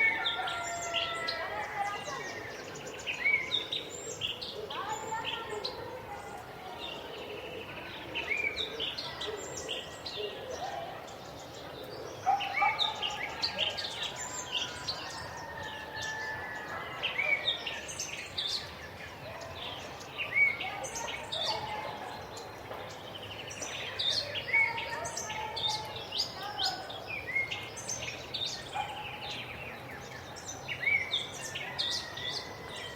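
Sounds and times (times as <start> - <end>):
birds chirping and calling: 0.0 - 32.9.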